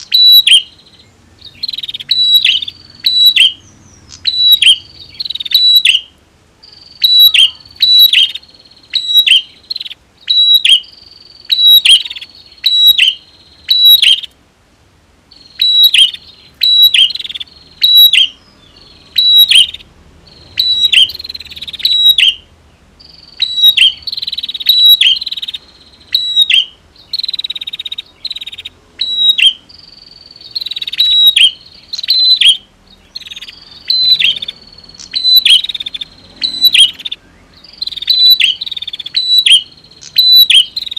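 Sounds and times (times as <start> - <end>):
bird calling with sharp clicks: 0.0 - 0.8, 1.4 - 10.9, 11.5 - 14.4, 15.4 - 18.4, 23.1 - 40.9.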